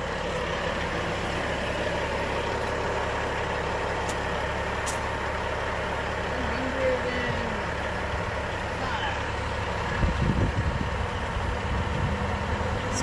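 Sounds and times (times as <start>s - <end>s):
large engine idling: 0.0s - 13.0s.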